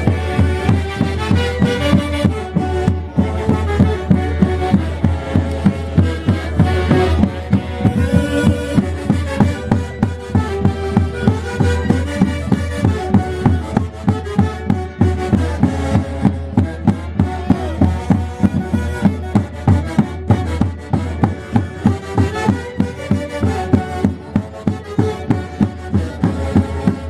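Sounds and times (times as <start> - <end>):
steady drum beat: 0.0 - 27.0
wind instrument melody: 0.0 - 27.0.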